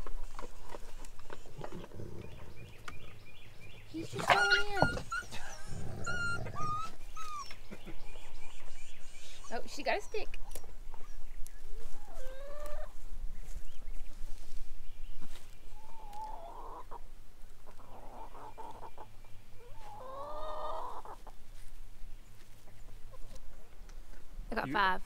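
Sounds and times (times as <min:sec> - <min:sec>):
hens calling: 0:00.0 - 0:13.6, 0:15.2 - 0:21.7.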